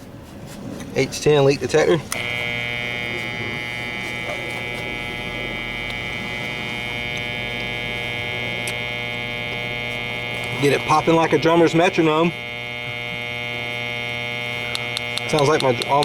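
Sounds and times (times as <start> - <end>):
leak detector electronic buzz: 1.5 - 16.0.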